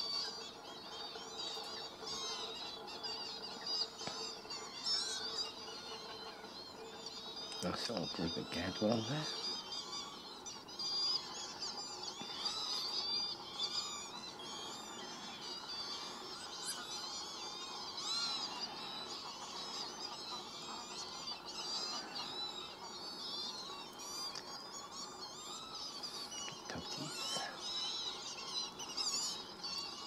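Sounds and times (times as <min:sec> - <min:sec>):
lower bird calls: 0:00.0 - 0:30.0
waterbirds chirping and whistling: 0:00.0 - 0:30.0.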